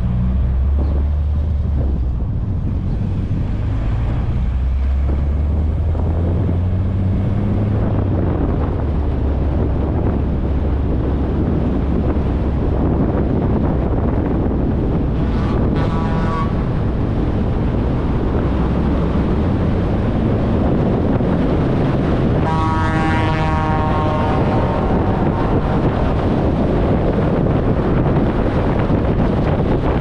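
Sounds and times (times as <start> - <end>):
road noise: 0.0 - 30.0
wind rushing over microphone: 0.0 - 30.0.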